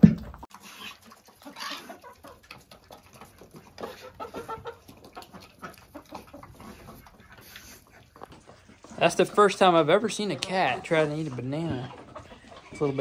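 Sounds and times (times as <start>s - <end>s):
hens clucking: 0.3s - 13.0s.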